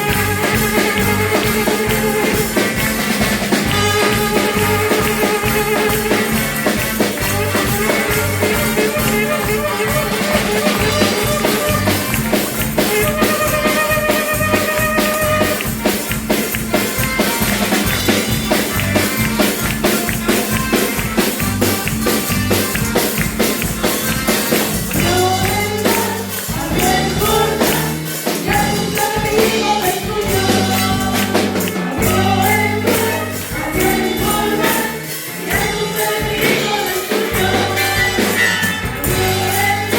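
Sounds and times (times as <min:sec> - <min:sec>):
singing voices: 0:00.0 - 0:39.9
upbeat music with percussion beat: 0:00.0 - 0:39.9.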